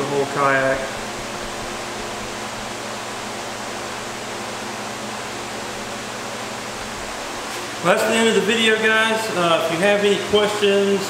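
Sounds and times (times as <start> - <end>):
electric fans running: 0.0 - 11.0.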